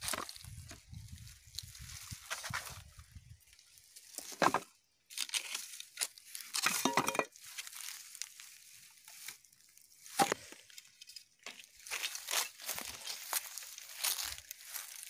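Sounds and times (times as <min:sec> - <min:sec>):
dry grass crunching and rustling: 0:00.0 - 0:15.0.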